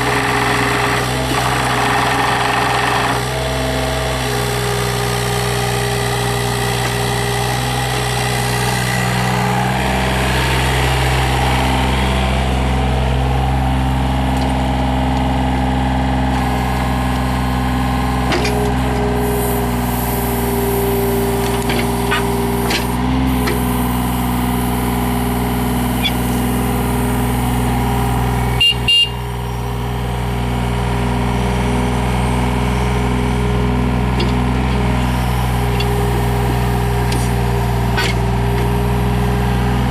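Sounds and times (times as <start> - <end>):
diesel excavator engine running: 0.0 - 39.9
hydraulic whine: 0.0 - 39.9.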